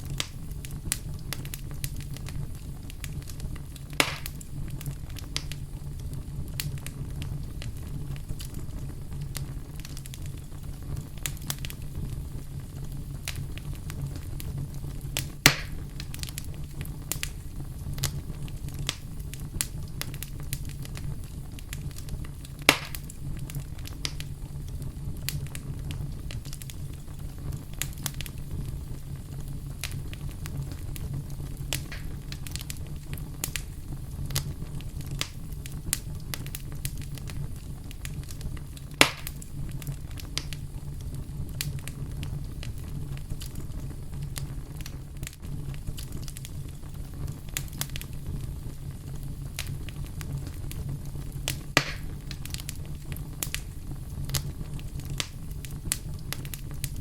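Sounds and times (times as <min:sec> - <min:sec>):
campfire crackling: 0:00.0 - 0:57.0
campfire pops: 0:00.0 - 0:57.0.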